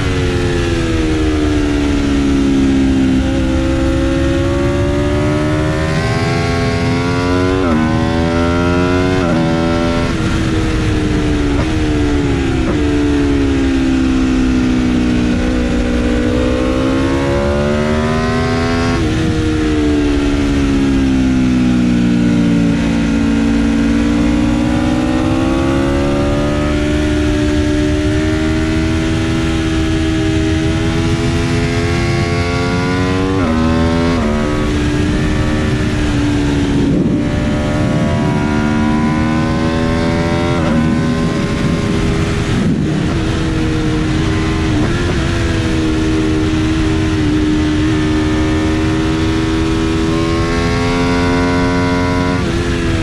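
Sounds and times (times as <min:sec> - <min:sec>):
motorcycle engine revving: 0:00.0 - 0:53.0
wind rush: 0:00.0 - 0:53.0.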